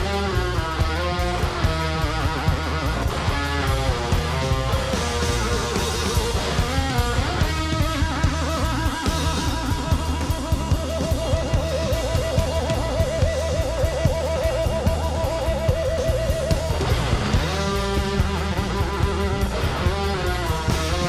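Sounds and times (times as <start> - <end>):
bass guitar: 0.0 - 21.0
drum beat: 0.0 - 21.0
rock guitar with vibrato: 0.0 - 21.0.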